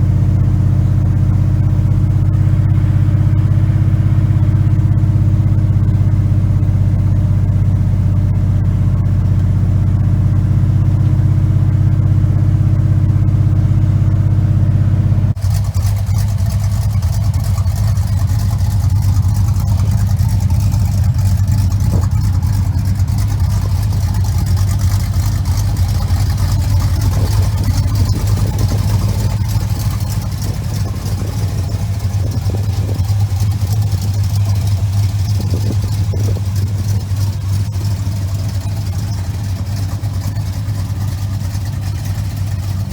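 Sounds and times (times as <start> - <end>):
pickup truck engine idling: 0.0 - 42.9.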